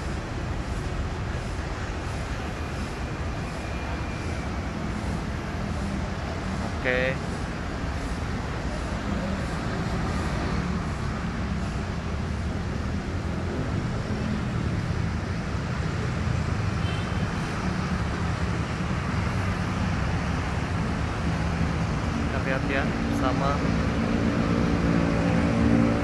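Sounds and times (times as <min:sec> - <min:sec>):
low rumble of traffic: 0:00.0 - 0:26.0.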